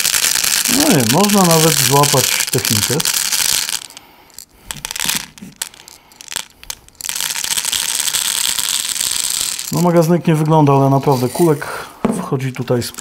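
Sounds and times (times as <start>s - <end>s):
plastic pellets pouring rattle: 0.0s - 11.7s, 12.4s - 13.0s.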